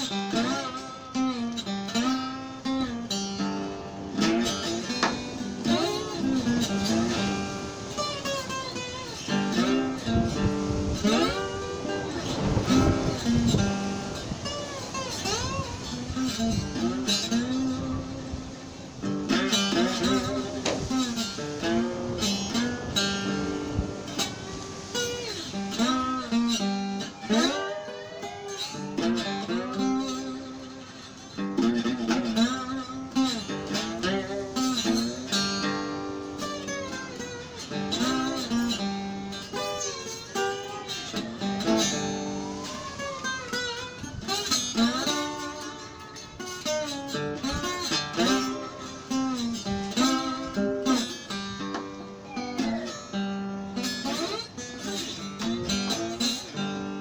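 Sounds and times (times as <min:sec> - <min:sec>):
acoustic guitar blues with slides: 0:00.0 - 0:57.0.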